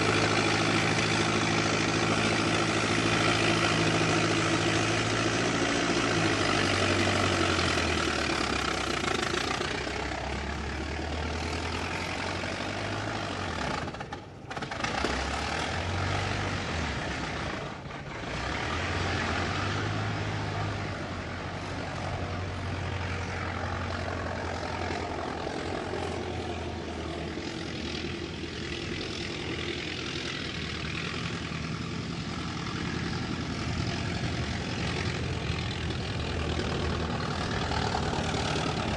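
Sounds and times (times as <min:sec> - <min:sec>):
old car engine running: 0:00.0 - 0:38.9.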